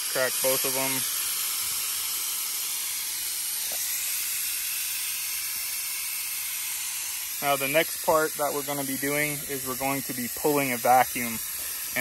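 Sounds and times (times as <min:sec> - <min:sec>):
gas hissing through hoses: 0:00.0 - 0:12.0.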